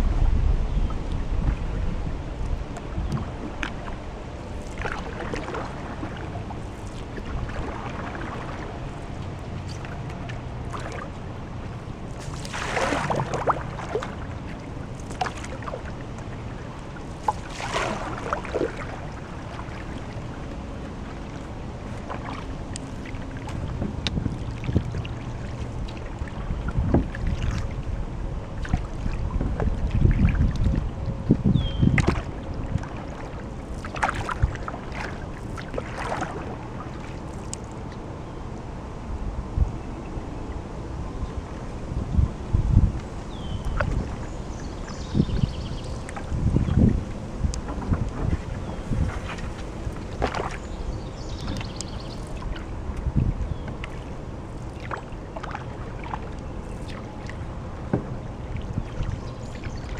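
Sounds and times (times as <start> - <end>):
canoe paddle in water: 0.0 - 59.9
water swishes: 0.0 - 59.9
wind rumble on microphone: 0.0 - 59.9.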